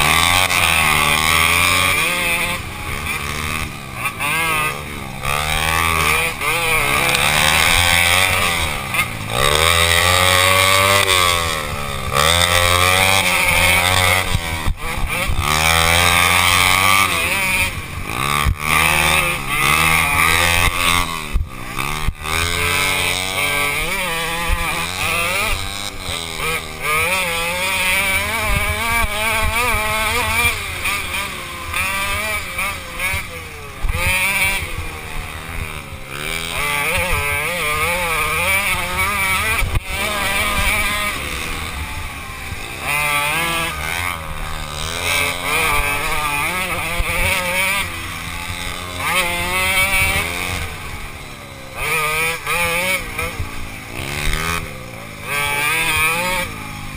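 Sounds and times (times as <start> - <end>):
small engine revving: 0.0 - 56.9.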